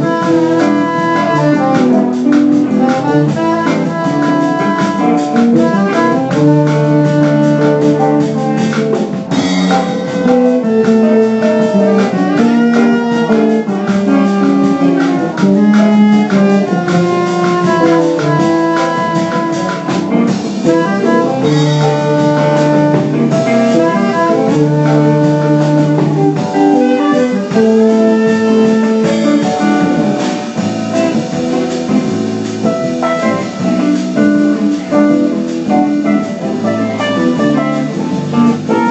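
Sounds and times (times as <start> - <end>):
drum kit: 0.0 - 38.9
guitar: 0.0 - 38.9
jazz band playing bossa nova: 0.0 - 38.9
saxophone melody: 0.0 - 38.9.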